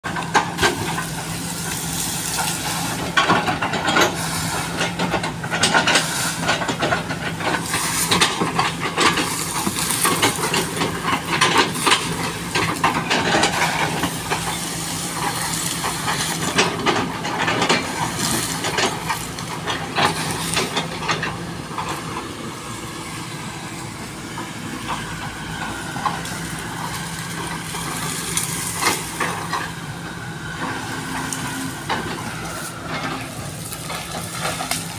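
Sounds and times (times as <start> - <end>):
excavator engine humming: 0.0 - 34.9.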